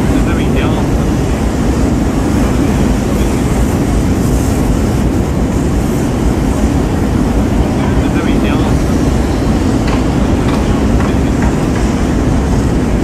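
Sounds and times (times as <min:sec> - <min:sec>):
diesel locomotive engine rumbling: 0:00.0 - 0:13.0
hiss: 0:00.1 - 0:13.0.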